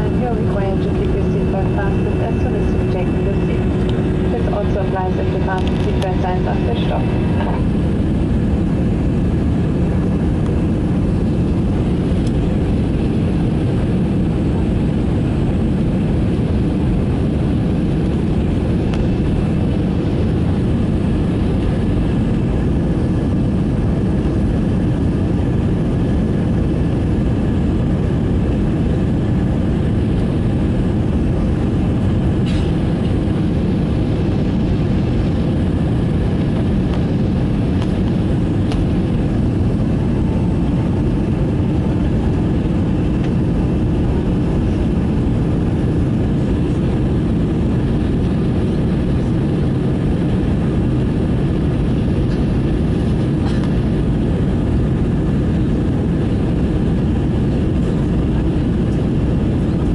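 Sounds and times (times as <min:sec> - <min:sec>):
faint steady whine: 0:00.0 - 0:59.9
jet engine cabin rumble: 0:00.0 - 0:59.9.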